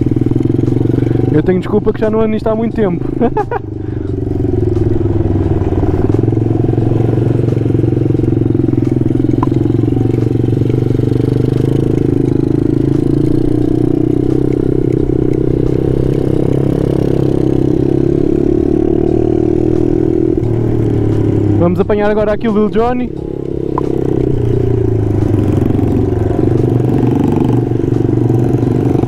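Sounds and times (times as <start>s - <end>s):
pit bike engine running: 0.0s - 29.0s.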